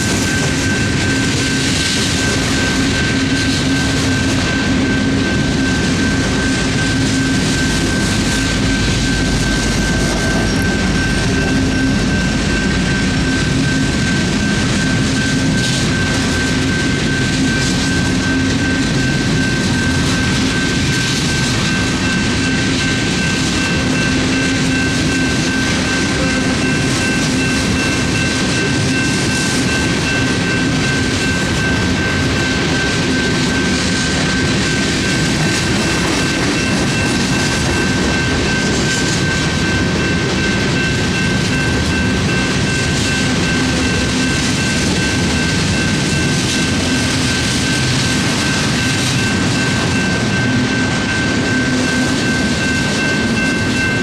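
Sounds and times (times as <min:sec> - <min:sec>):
steady high-pitched tone: 0:00.0 - 0:54.0
train wheels rumbling on rail: 0:00.0 - 0:54.0.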